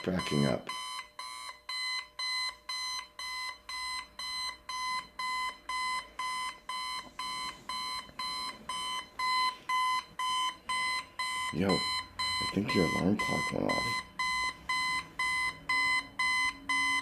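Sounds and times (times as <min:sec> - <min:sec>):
alarm clock beeping: 0:00.0 - 0:17.0.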